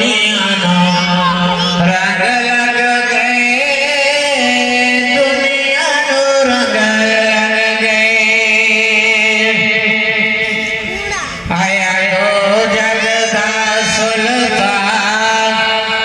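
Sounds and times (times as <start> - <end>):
man chanting unaccompanied: 0.0 - 16.0.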